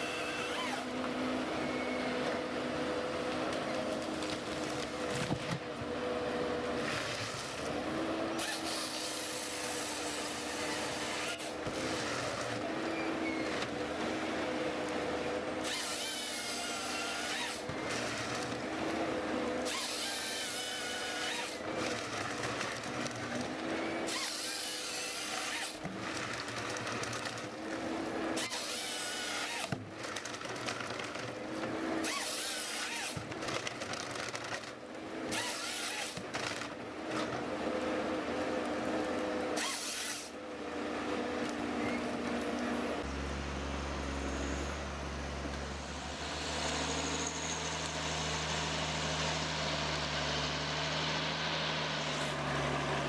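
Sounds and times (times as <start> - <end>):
wood cutting noise: 0.0 - 53.0.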